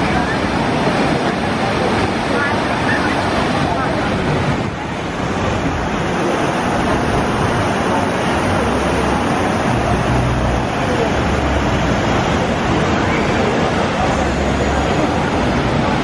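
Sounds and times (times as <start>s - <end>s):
water rushing through slides: 0.0s - 16.0s.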